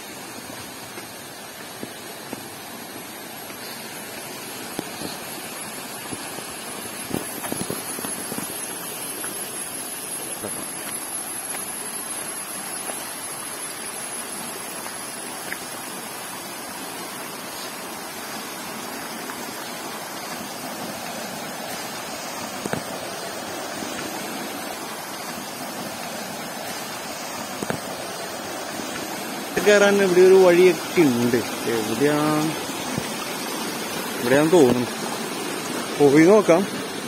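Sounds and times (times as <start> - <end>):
water rushing in stream: 0.0 - 37.0.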